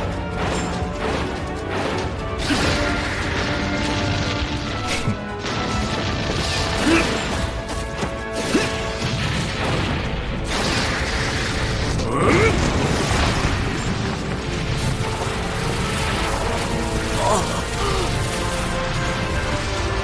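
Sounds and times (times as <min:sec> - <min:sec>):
background music: 0:00.0 - 0:20.0
rumbling of debris: 0:00.0 - 0:20.0.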